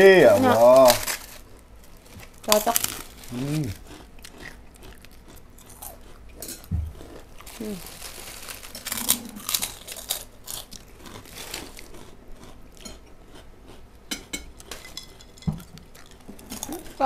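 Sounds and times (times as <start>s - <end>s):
crunching crisp crackers: 0.0s - 13.9s, 14.6s - 17.0s.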